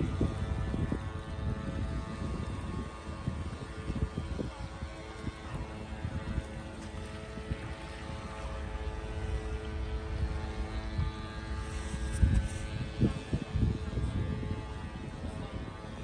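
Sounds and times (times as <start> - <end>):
small electric motor whine: 0.0 - 16.0.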